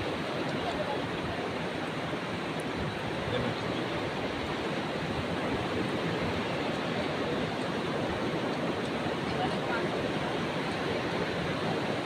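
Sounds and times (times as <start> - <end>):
sea waves rushing: 0.0 - 12.0
wind: 0.0 - 12.0.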